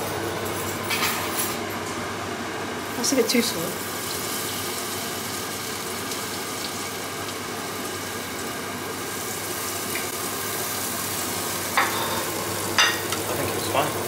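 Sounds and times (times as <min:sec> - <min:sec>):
hot oil sizzling: 0:02.6 - 0:14.0.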